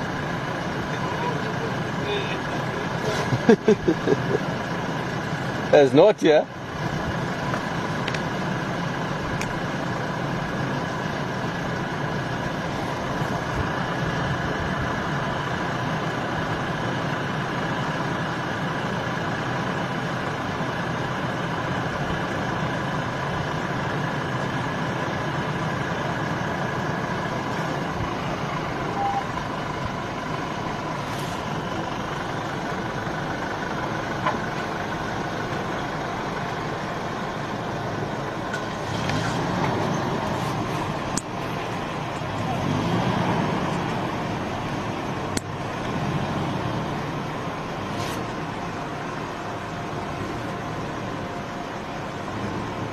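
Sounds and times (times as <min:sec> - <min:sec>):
vehicle engines idling: 0:00.0 - 0:52.9.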